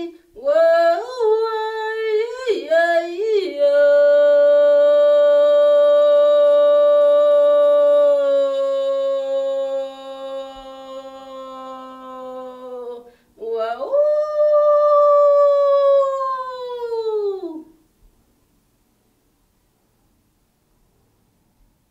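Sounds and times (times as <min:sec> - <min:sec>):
person singing long notes: 0:00.0 - 0:17.8.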